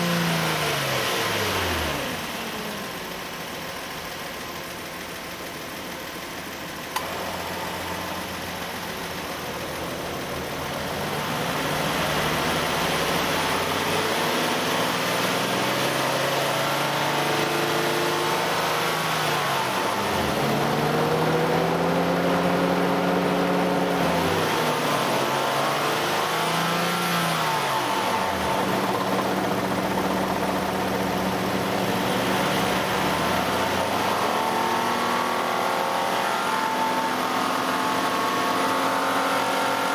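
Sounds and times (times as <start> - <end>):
car engine revving: 6.9 - 39.9.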